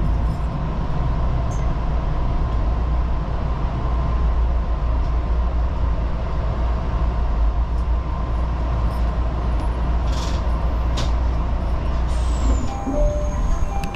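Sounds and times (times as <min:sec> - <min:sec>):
train rumbling: 0:00.0 - 0:13.9.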